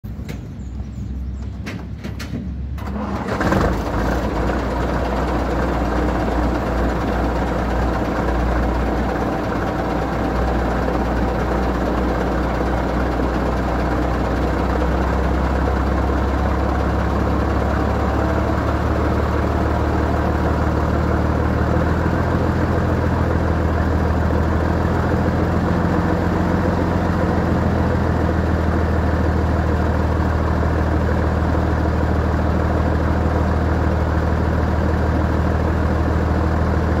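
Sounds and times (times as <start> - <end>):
diesel truck engine starting and idling: 0.1 - 37.0.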